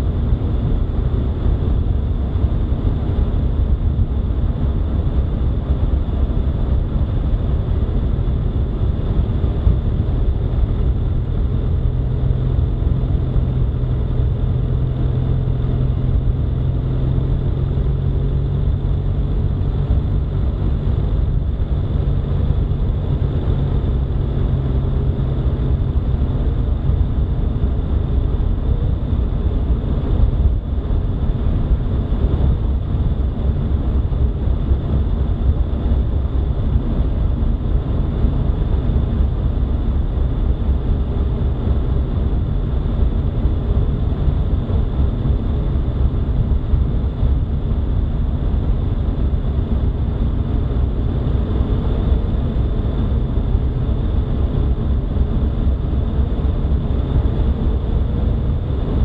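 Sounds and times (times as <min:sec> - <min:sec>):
low hum: 0:00.0 - 0:59.0
road and wind noise: 0:00.0 - 0:59.0.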